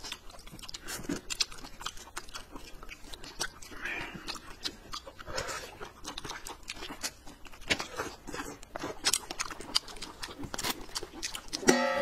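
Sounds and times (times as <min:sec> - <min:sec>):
mouth clicks and smacks: 0:00.0 - 0:11.7
people chewing and crunching food: 0:00.0 - 0:12.0.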